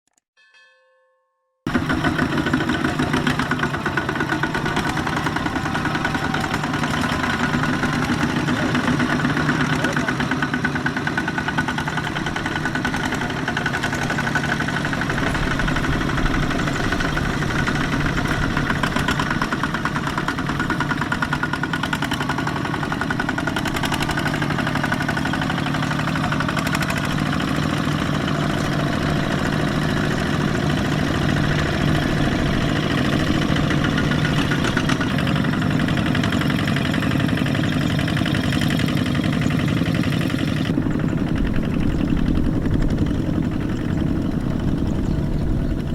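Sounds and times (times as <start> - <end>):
tractor engine running: 1.7 - 45.9.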